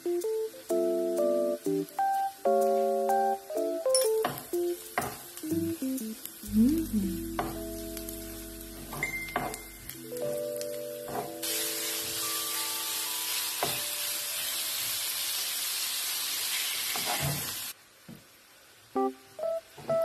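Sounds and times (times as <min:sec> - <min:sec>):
bacon sizzling in a frying pan: 0:00.0 - 0:20.0.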